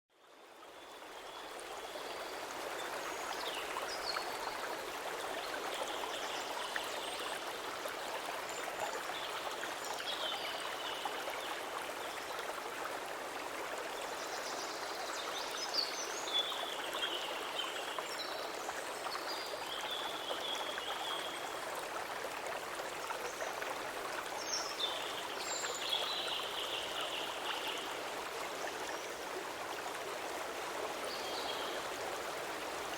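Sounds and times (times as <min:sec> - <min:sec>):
stream water rushing: 0:00.5 - 0:32.9.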